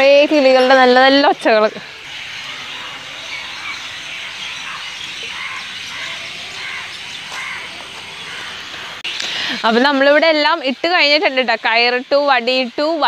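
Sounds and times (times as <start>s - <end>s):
chorus of birds chirping: 0.0s - 13.0s.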